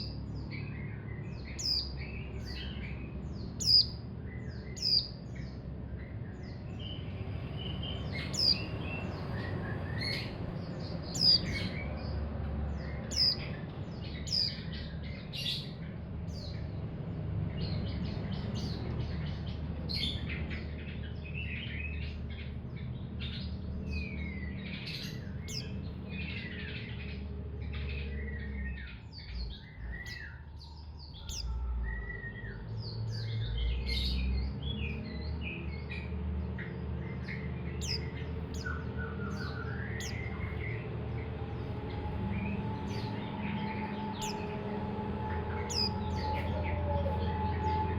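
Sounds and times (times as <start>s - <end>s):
bird twittering song: 0.0s - 47.9s.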